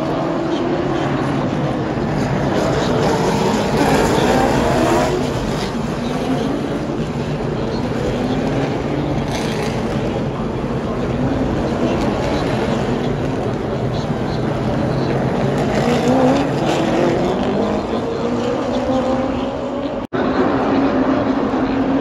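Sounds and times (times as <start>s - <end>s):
stock car engines running: 0.0s - 22.0s.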